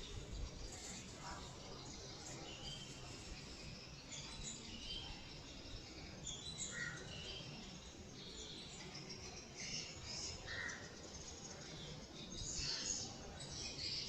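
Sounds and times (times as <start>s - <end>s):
cage birds chirping: 0.0s - 14.0s.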